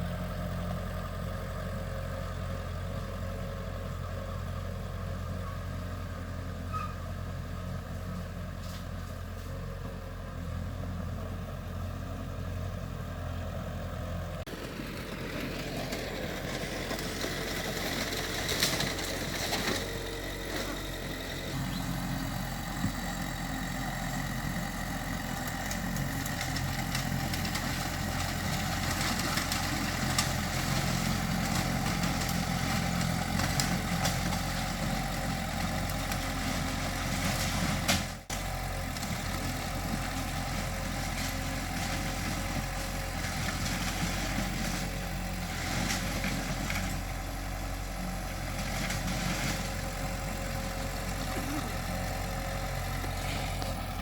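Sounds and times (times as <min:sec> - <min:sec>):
diesel engine running at low revs: 0:00.0 - 0:54.0.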